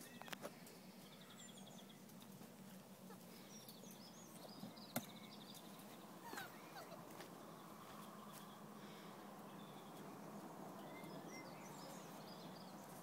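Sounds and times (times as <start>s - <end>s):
faint birdsong: 0.0s - 13.0s
low steady hum: 0.0s - 13.0s.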